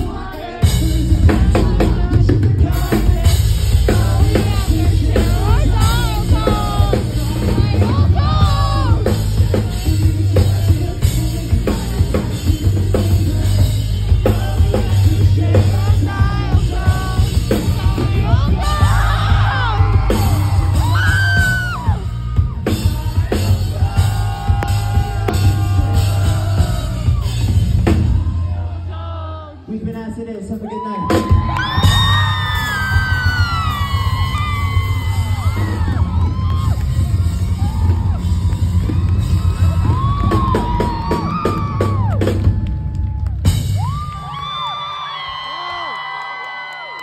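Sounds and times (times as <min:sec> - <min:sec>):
pounding drum kit: 0:00.0 - 0:29.0, 0:29.8 - 0:44.8
heavy bass: 0:00.0 - 0:30.4, 0:31.0 - 0:44.5
lead vocals singing and yelling: 0:00.0 - 0:44.9.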